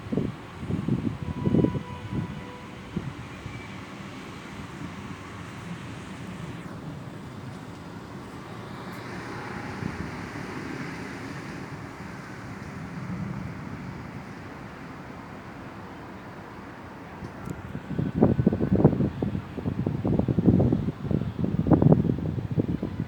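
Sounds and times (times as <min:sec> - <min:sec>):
city traffic: 0:00.0 - 0:23.0.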